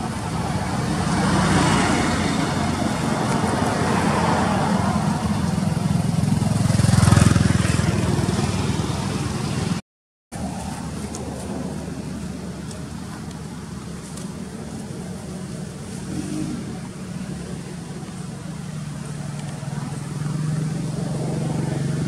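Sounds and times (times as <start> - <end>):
motor vehicle passing: 0.0 - 9.8, 10.4 - 22.0.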